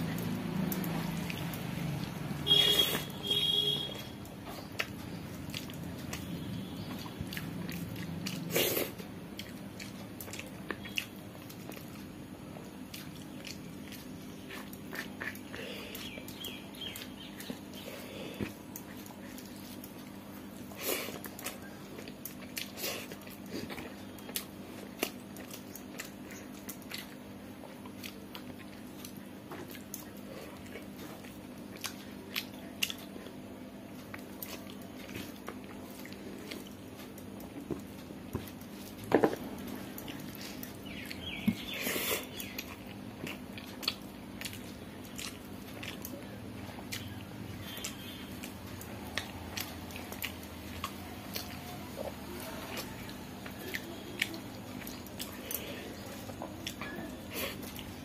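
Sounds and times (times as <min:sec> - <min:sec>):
faint steady hum: 0:00.0 - 0:58.0
person chewing with wet clicks: 0:00.0 - 0:58.0.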